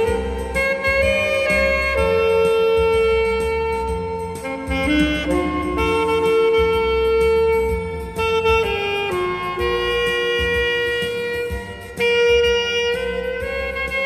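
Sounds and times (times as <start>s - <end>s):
backing accompaniment: 0.0s - 14.0s
saxophone playing hymn melody: 0.0s - 14.0s.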